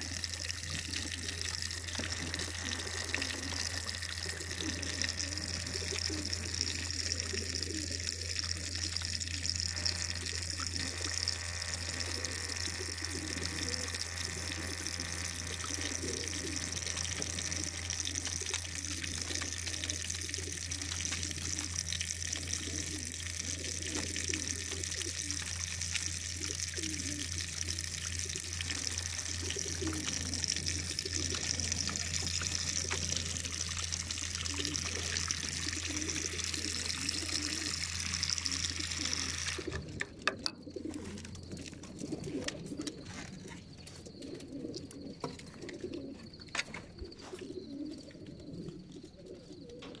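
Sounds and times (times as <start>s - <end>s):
water streaming along troughs: 0.0s - 40.2s
pigeons cooing: 0.0s - 50.0s
steady low hum: 0.0s - 50.0s.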